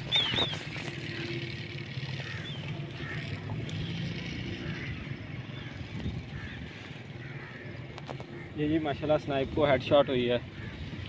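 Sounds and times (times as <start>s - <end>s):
low engine hum: 0.0s - 9.8s.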